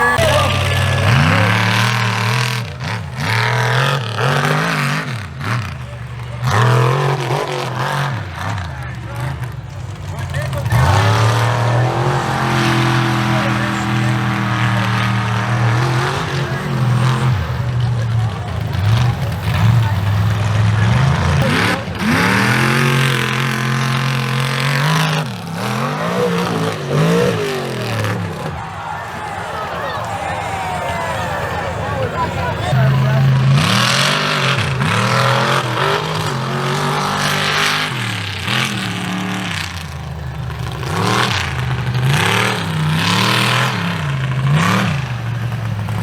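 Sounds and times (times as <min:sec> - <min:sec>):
truck engine revving hard: 0:00.0 - 0:46.0.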